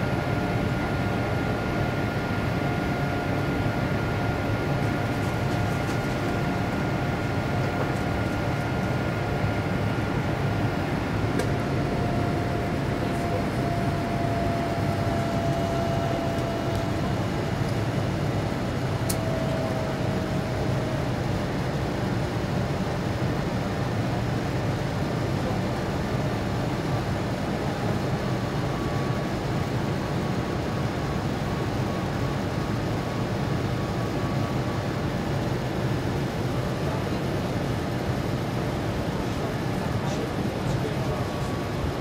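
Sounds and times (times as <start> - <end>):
airplane cabin engine noise: 0.0 - 42.0.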